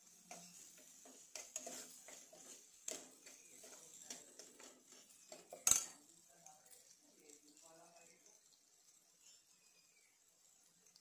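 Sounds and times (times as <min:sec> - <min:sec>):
spoon scraping a pan: 0:00.0 - 0:11.0.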